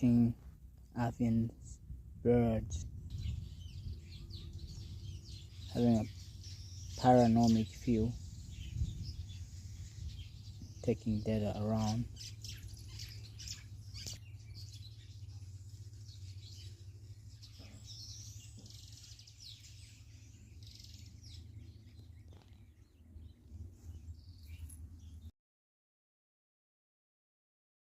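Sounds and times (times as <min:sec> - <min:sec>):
birds chirping and calling: 0:00.0 - 0:25.3
steady low rumble: 0:00.0 - 0:25.3.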